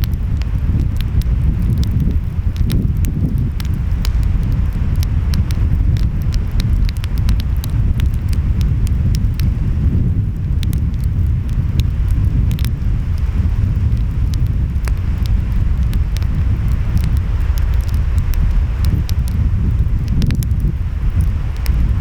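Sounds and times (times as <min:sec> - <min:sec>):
wind: 0:00.0 - 0:22.0
wood fire crackling: 0:00.0 - 0:22.0.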